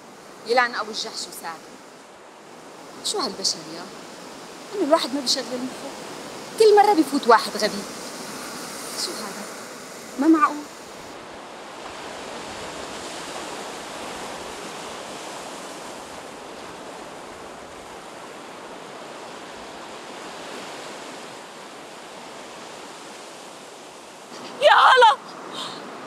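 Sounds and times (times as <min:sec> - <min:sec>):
surf washing on a beach: 0:00.0 - 0:26.0.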